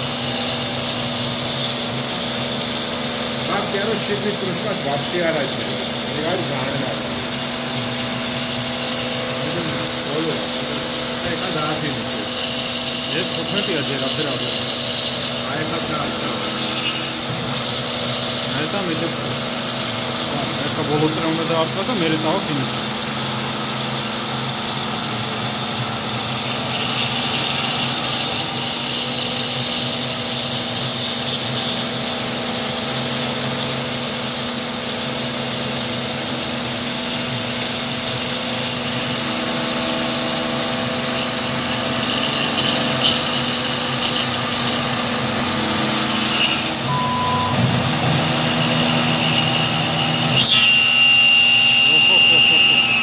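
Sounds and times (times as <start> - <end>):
milling machine hum: 0.0 - 53.0
whine of metal cutting: 0.0 - 53.0.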